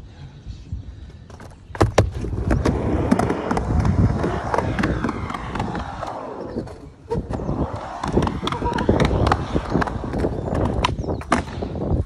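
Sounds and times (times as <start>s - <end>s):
skateboard clacks: 1.3s - 12.0s
skateboard wheels rumbling on plywood: 1.3s - 12.0s.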